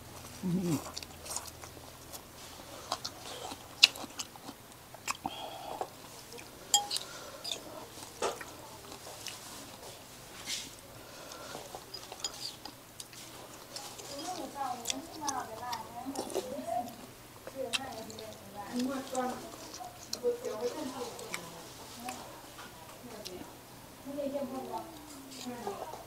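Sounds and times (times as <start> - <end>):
person chewing noodles: 0.0 - 10.2, 10.9 - 22.6.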